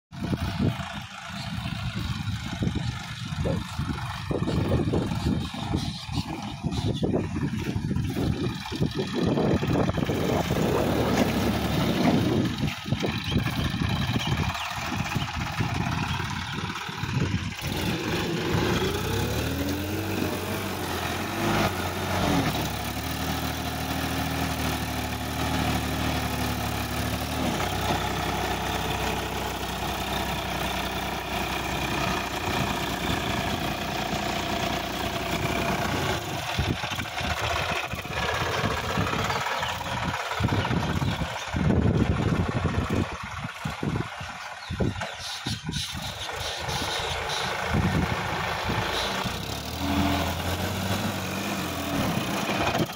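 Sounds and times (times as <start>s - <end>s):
tractor diesel engine running: 0.1s - 52.9s.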